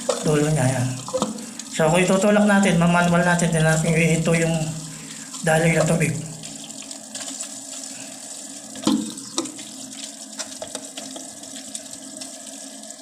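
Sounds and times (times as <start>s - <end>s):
water filling toilet cistern: 0.0s - 13.0s.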